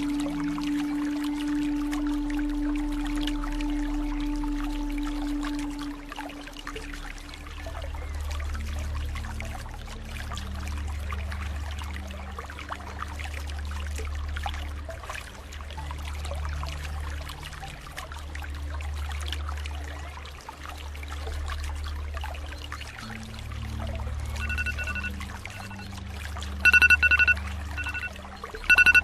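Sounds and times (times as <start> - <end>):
soft background music: 0.0 - 29.0
water trickling and splashing: 0.0 - 29.0.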